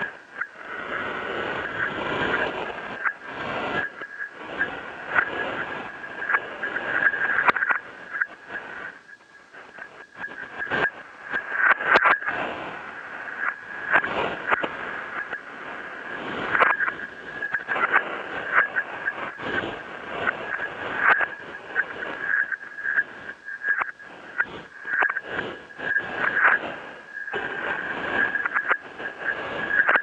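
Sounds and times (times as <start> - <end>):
radio static hissing: 0.0 - 30.0
sharp crackles and pops: 0.0 - 30.0
steady high-pitched tone: 0.0 - 30.0.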